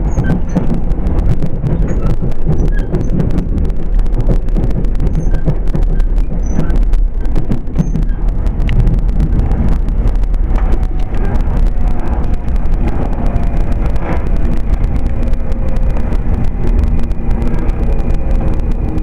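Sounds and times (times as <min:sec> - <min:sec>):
faint whining tones: 0:00.0 - 0:19.0
train running gear rumble: 0:00.0 - 0:19.0.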